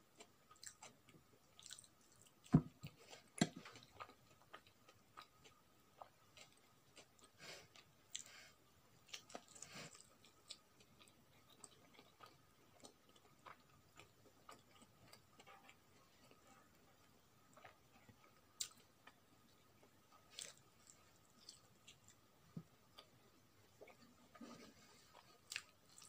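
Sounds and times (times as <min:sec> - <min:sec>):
person chewing and mouth sounds: 0:00.1 - 0:08.4, 0:09.0 - 0:22.2, 0:22.9 - 0:26.0.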